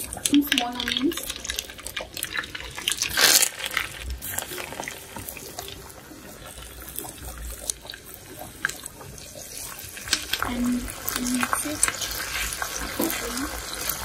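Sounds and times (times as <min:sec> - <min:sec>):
frying in hot oil sizzling: 0:00.0 - 0:14.0.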